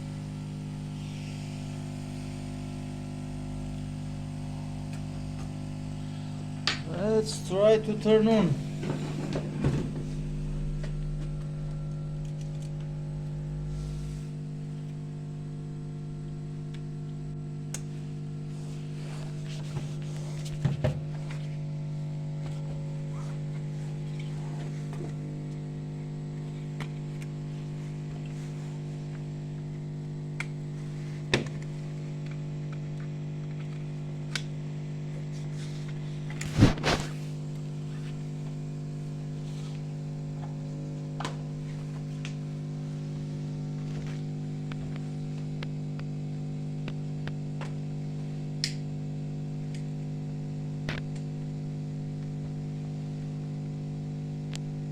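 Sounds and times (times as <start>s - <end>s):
electrical hum: 0.0s - 54.9s.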